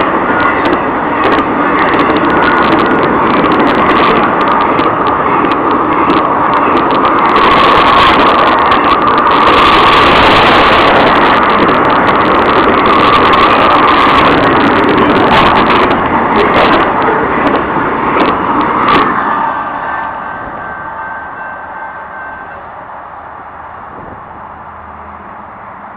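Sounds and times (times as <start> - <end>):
freight train passing: 0.0 - 25.9
wheels clicking on rail: 0.0 - 25.9.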